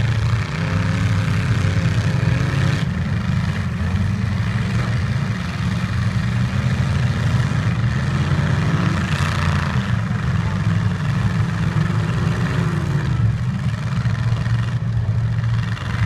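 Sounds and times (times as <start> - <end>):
truck engines running: 0.0 - 16.0.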